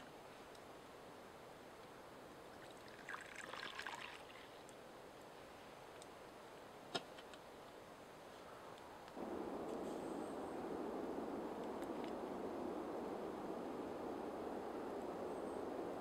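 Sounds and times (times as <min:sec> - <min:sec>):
campfire crackling: 0:01.6 - 0:16.0.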